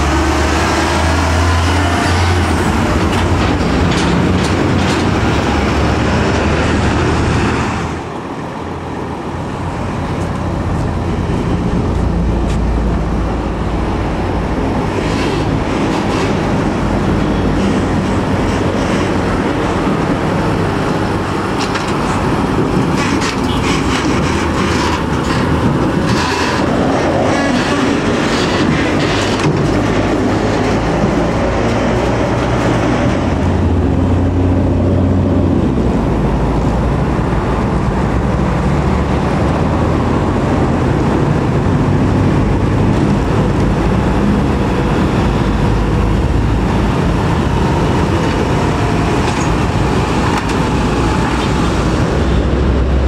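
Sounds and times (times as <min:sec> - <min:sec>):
diesel trucks passing: 0:00.0 - 0:53.0
tyre and road noise: 0:00.0 - 0:53.0.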